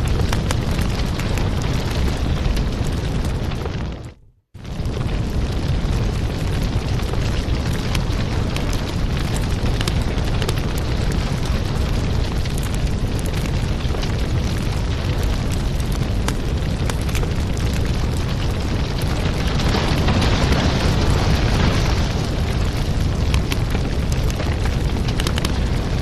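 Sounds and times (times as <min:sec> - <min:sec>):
fire crackling and popping: 0:00.0 - 0:26.0
wood fire rumbling: 0:00.0 - 0:26.0.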